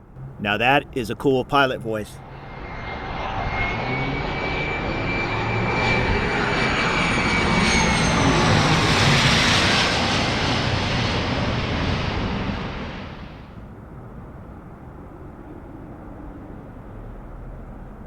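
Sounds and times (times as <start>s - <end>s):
jet engines rushing and whining: 0.0s - 16.6s.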